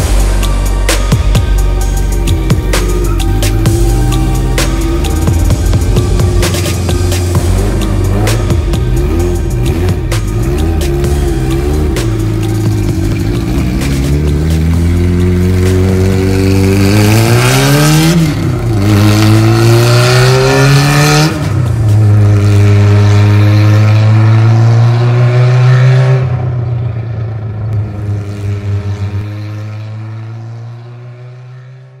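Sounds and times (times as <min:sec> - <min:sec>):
engine running and revving: 0:00.0 - 0:32.0.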